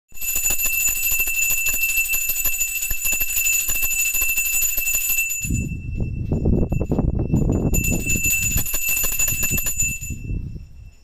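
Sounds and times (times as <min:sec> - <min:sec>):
temple bell ringing: 0:00.2 - 0:11.0.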